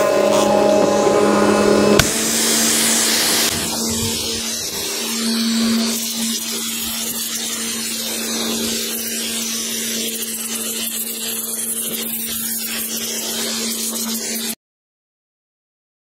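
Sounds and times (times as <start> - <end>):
pressure washer motor humming: 0.0 - 14.6
water jet hissing: 0.0 - 14.6.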